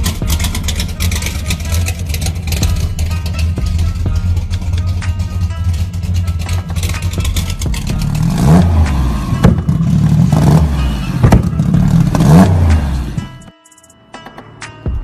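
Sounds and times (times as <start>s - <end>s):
car engine revving: 0.0s - 13.5s
exhaust crack: 0.0s - 13.5s.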